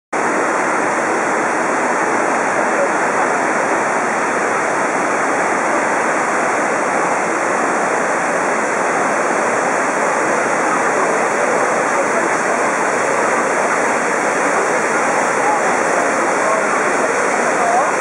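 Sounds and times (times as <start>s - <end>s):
waterfall rushing: 0.2s - 18.0s.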